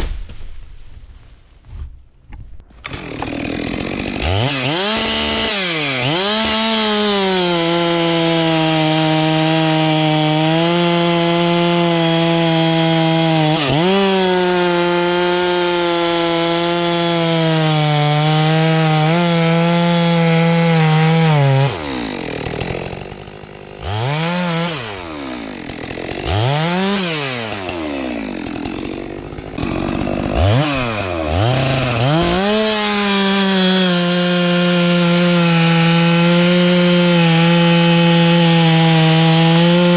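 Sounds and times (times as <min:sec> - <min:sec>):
chainsaw cutting wood: 0:02.7 - 0:39.9.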